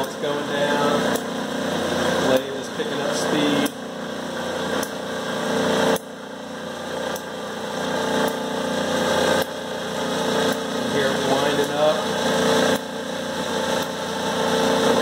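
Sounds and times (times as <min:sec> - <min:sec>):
lathe running: 0:00.0 - 0:15.0.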